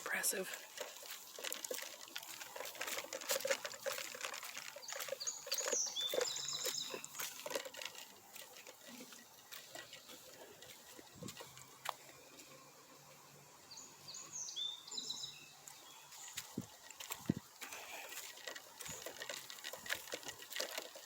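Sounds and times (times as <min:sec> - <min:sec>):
footsteps through dry leaves: 0:00.0 - 0:12.9, 0:15.3 - 0:21.0.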